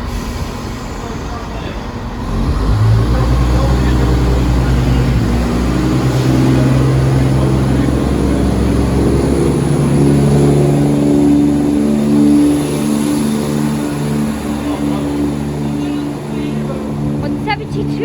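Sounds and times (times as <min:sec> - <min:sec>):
diesel train engines revving: 0:00.0 - 0:18.0.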